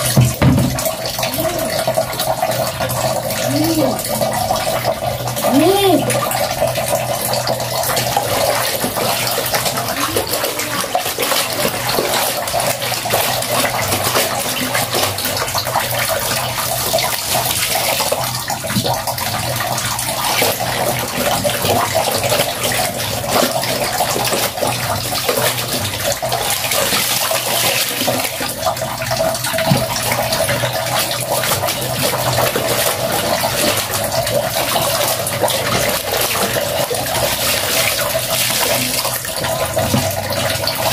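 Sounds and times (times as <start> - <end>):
water sloshing in basin: 0.0 - 40.9.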